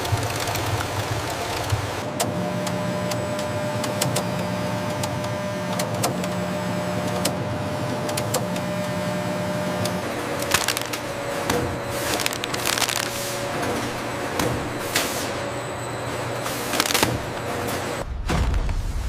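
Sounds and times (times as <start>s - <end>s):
machinery mechanical hum: 0.0s - 19.0s.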